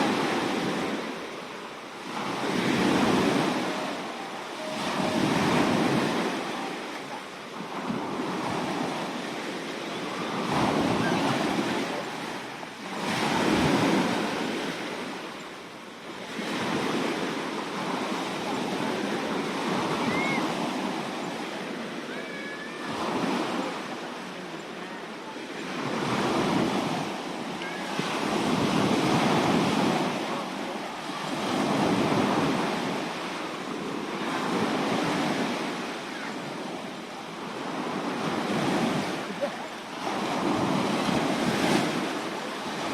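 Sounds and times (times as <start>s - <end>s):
sea waves washing onto shore: 0.0s - 42.9s.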